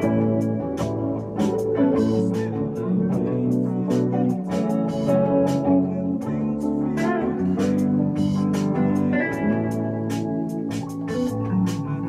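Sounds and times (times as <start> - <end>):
bass guitar: 0.0 - 12.0
electric guitars: 0.0 - 12.0
electric keyboard: 0.0 - 12.0
percussive beat: 0.0 - 12.0.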